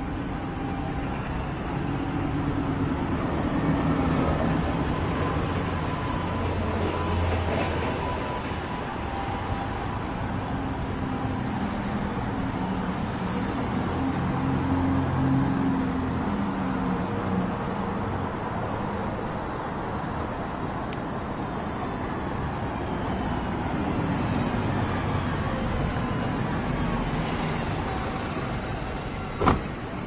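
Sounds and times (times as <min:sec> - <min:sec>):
bus engine drone: 0:00.0 - 0:30.0
cars passing: 0:00.0 - 0:30.0.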